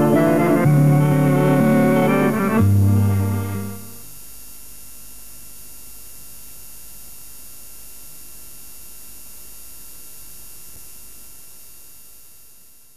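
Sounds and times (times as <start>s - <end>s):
steady tape hiss: 0.0s - 12.9s.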